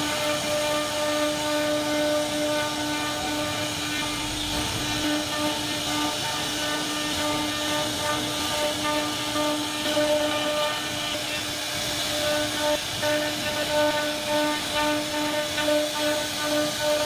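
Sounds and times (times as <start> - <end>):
hiss of wood cutting: 0.0 - 17.0
router spindle whine: 0.0 - 17.0.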